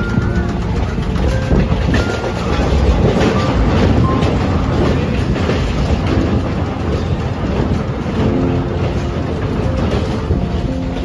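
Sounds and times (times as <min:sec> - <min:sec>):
train rumble inside carriage: 0:00.0 - 0:11.0
wheel clatter over rails: 0:00.0 - 0:11.0.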